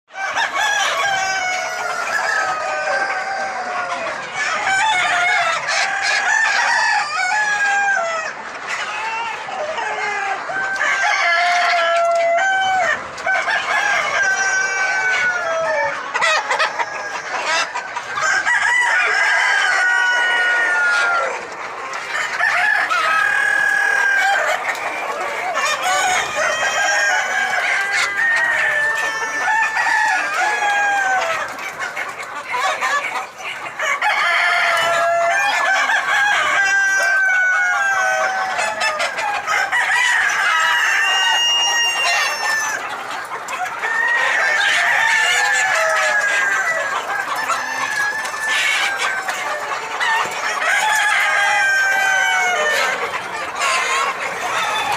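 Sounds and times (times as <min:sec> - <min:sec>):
hens clucking: 0:00.1 - 0:54.9
roosters crowing: 0:00.1 - 0:54.9.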